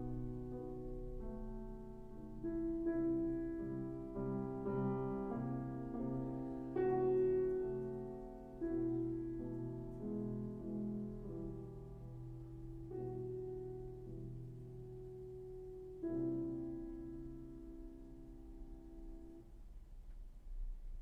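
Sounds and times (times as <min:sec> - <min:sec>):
slow piano music over loudspeakers: 0:00.0 - 0:21.0.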